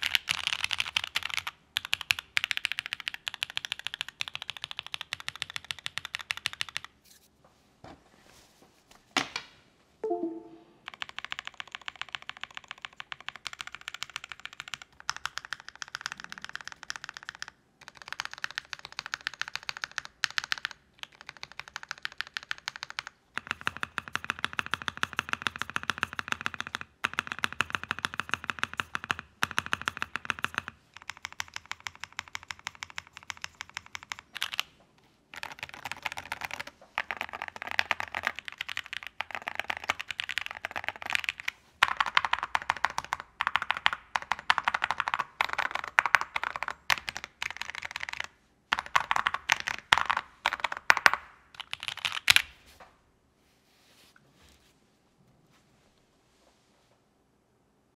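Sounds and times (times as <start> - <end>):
mechanical keyboard typing: 0.0 - 6.9, 10.0 - 34.7, 35.3 - 52.4.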